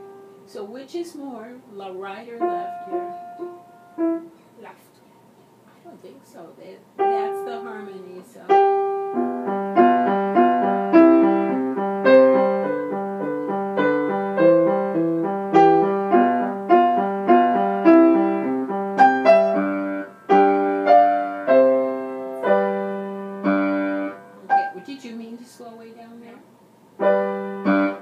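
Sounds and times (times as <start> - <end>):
grand piano notes and chords: 0.0 - 0.6, 2.0 - 4.7, 7.0 - 25.4, 27.0 - 28.0.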